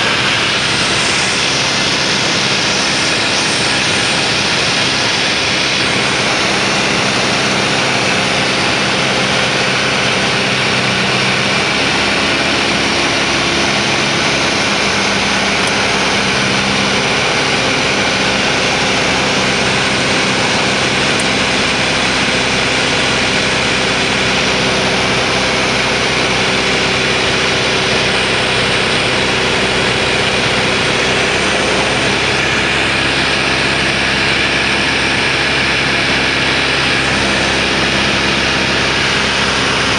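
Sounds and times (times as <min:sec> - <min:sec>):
propeller aircraft engine droning: 0:00.0 - 0:39.9
rush of airflow: 0:00.0 - 0:39.9.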